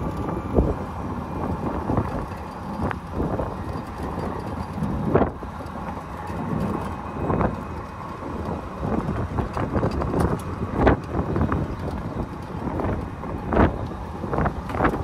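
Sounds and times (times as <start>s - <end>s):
vehicle rumbling on brick pavers: 0.0s - 15.0s
wind buffeting microphone: 0.0s - 15.0s.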